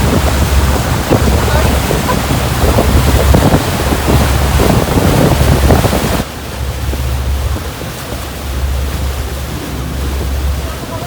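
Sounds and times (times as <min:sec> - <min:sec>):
sea water rushing: 0:00.0 - 0:11.0
wind buffeting microphone: 0:00.0 - 0:11.0.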